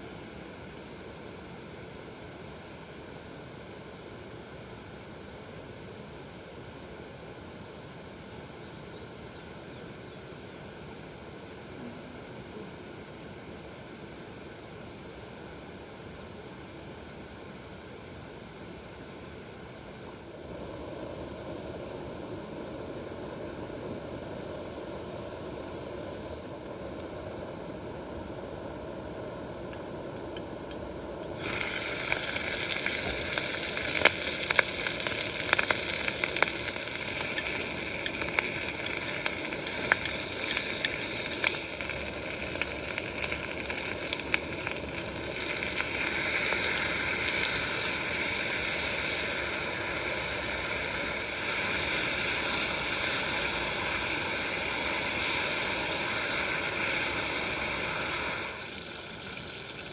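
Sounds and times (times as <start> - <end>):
campfire hissing and crackling: 0.0 - 59.9.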